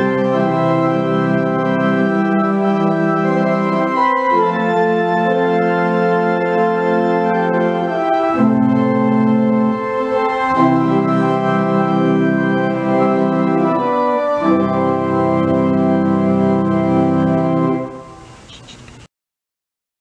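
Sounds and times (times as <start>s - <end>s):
organ chords: 0.0s - 19.0s.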